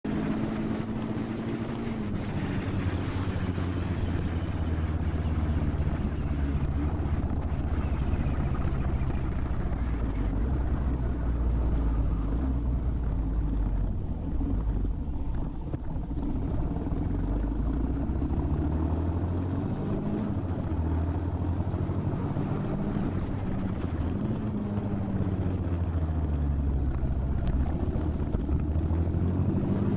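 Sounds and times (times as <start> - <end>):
motorcycle engine revving: 0.0 - 29.9
wind noise on microphone: 0.2 - 29.9.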